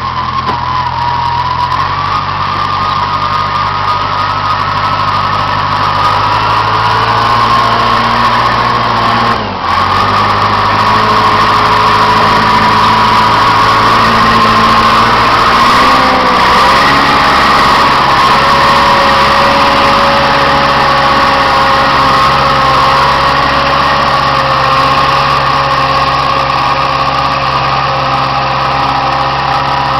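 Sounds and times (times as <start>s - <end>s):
dozer engine running: 0.0s - 29.9s
high whine: 0.0s - 29.9s.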